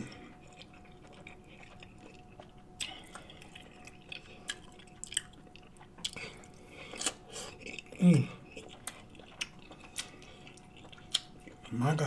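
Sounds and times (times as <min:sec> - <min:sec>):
chewing with wet mouth sounds: 0:00.0 - 0:12.0.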